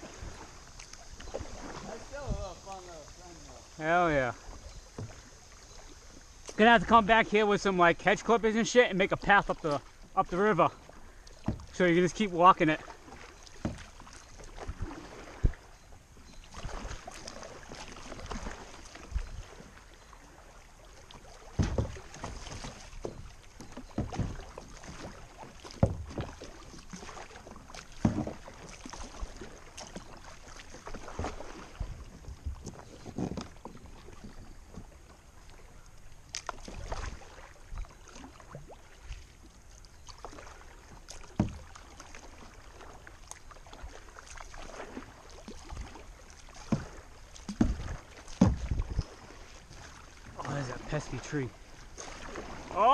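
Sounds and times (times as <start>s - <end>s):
paddle strokes splashing: 0.0s - 52.9s
water washing around hull: 0.0s - 52.9s.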